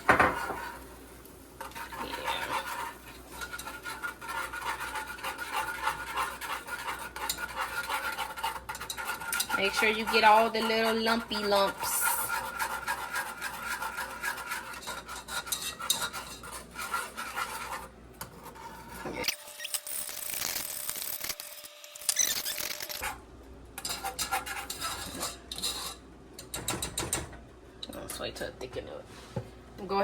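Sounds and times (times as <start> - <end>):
utensil scraping a pot: 0.0 - 19.4, 22.3 - 27.3.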